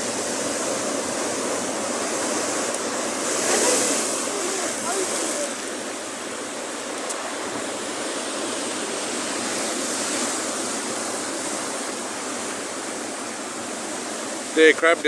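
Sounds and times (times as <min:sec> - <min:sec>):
ocean surf breaking over rocks: 0:00.0 - 0:15.0.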